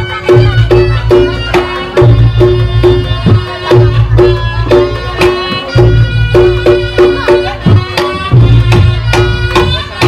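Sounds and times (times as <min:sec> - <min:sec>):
drum strokes: 0:00.0 - 0:10.0
reedy wind instrument melody: 0:00.0 - 0:10.0.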